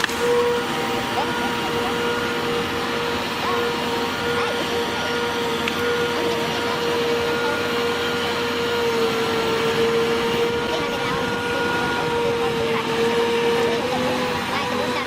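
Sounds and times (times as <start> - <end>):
machine running with whine: 0.0 - 15.0.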